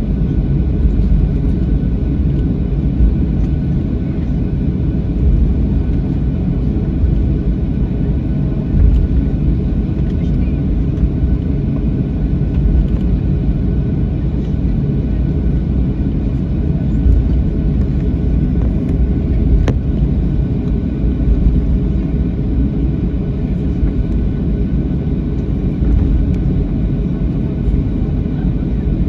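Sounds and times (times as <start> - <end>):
jet engines roaring in cabin: 0.0 - 29.0
runway rumble: 0.0 - 29.0.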